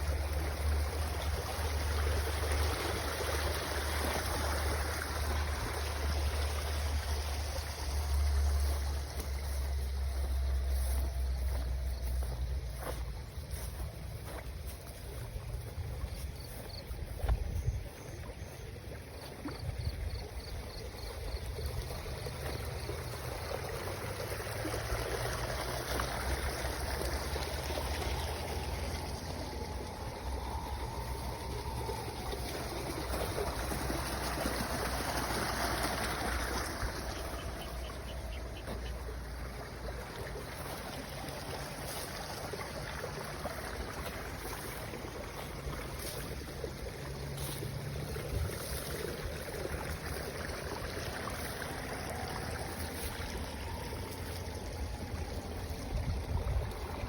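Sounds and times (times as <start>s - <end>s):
low steady rumble: 0.0s - 57.0s
water flowing: 0.0s - 57.0s.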